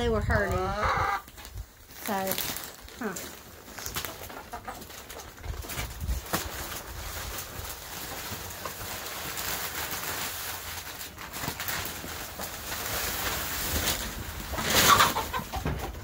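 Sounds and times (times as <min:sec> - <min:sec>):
plastic bag crinkling: 0:01.2 - 0:15.5
wood shavings rustling: 0:01.2 - 0:16.0.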